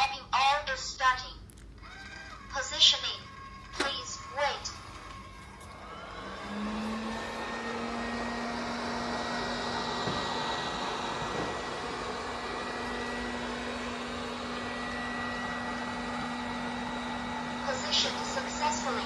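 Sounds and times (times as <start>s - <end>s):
robot vacuum fan humming and whining: 1.7s - 19.0s.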